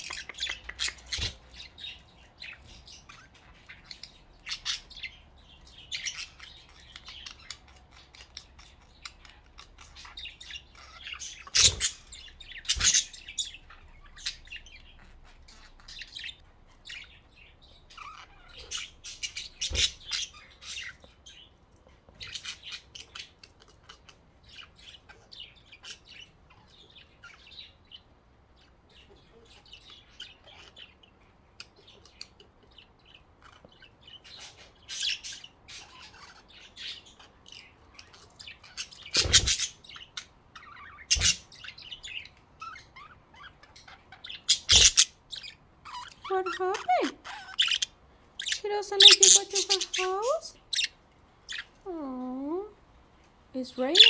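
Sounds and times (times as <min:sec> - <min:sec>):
budgerigars chirping: 0:00.0 - 0:21.5, 0:22.2 - 0:51.8, 0:53.8 - 0:54.0.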